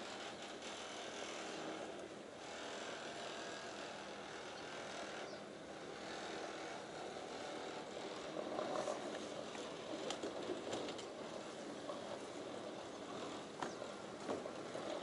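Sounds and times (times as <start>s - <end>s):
road traffic hiss: 0.0s - 15.0s.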